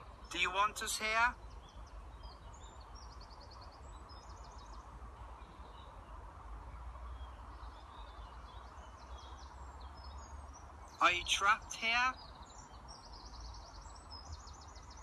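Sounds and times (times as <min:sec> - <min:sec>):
faint songbird trills: 0:00.0 - 0:15.0.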